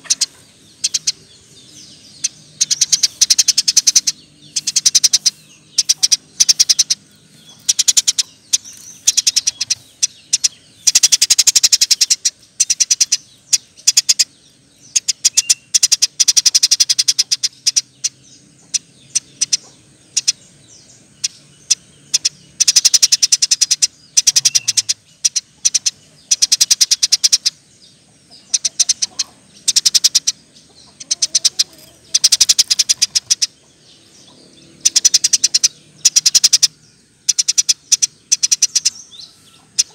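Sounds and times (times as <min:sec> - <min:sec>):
sparrow chirping rapidly: 0:00.0 - 0:39.9.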